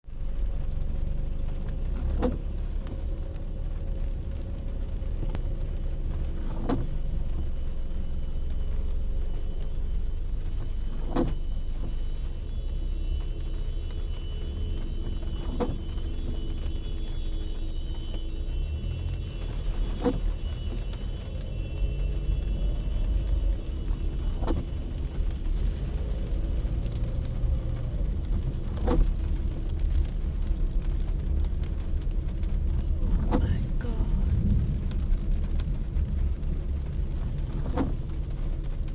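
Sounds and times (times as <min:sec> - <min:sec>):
car interior rumble: 0:00.0 - 0:38.9.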